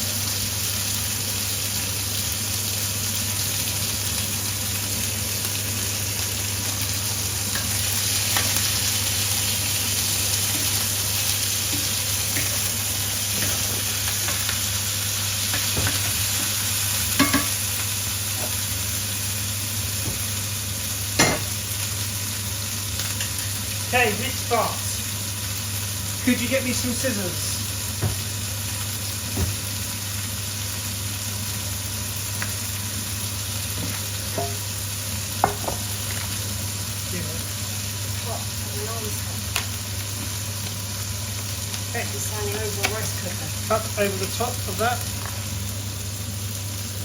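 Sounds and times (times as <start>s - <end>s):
food sizzling in pans: 0.0s - 47.0s.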